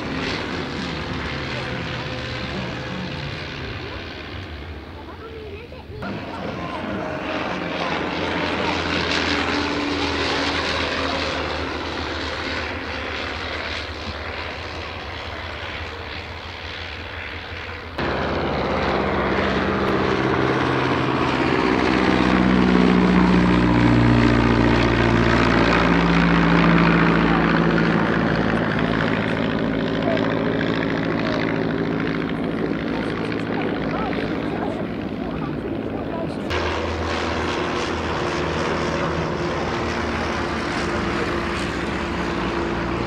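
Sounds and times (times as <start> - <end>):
biplane engine passing: 0.0 - 43.0
biplane rotary engine droning: 0.0 - 43.0.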